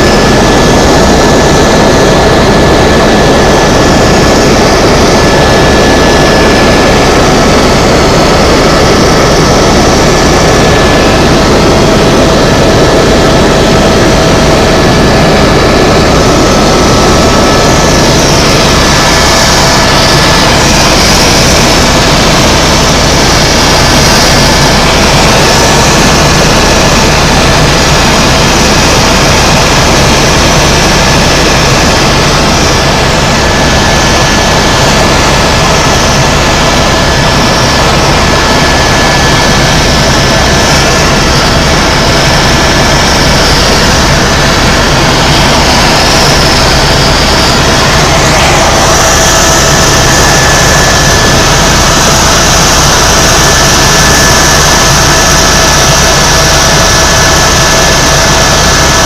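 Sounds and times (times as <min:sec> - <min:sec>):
helicopter engine and rotor drone: 0:00.0 - 0:59.0
high turbine whine: 0:00.0 - 0:59.0.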